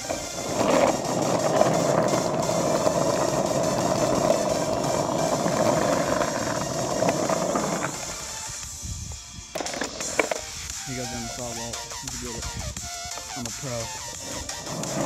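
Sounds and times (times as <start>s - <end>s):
skateboard wheels rolling on asphalt: 0.0s - 15.0s.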